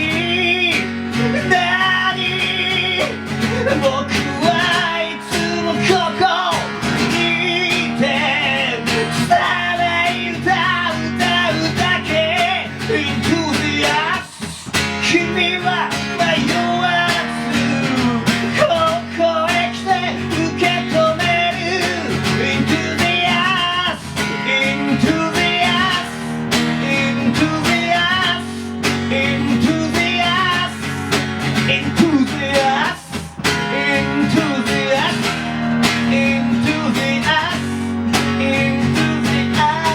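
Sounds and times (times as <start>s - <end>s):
instrumental band with guitar: 0.0s - 39.9s.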